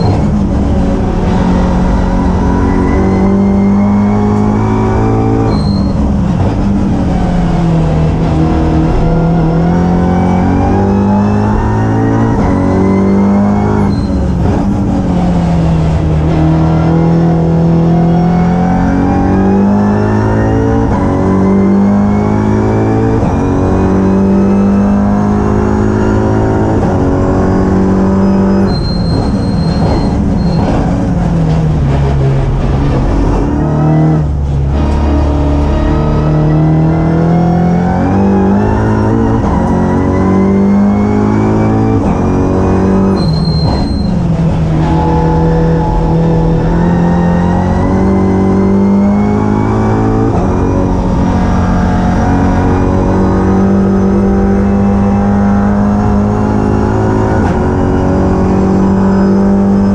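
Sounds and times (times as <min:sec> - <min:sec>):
racing car engine with upshifts: 0:00.0 - 0:59.9.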